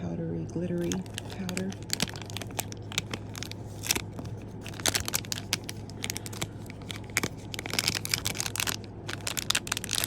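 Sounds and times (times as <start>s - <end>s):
steady low hum: 0.0s - 10.0s
plastic packaging crinkling: 0.7s - 10.0s.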